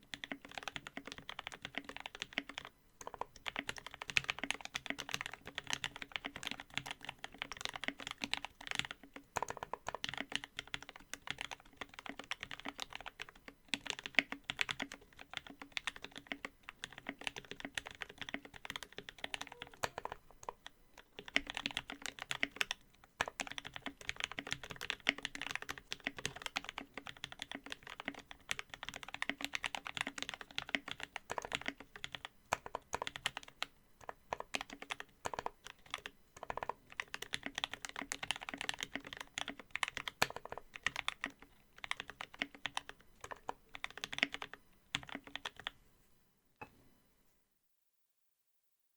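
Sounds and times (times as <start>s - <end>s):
fast mechanical keyboard typing: 0.0s - 45.8s.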